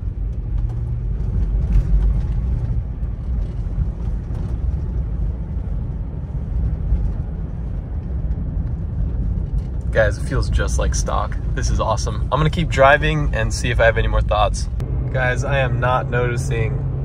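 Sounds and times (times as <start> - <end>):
engine and road rumble in cabin: 0.0 - 17.0.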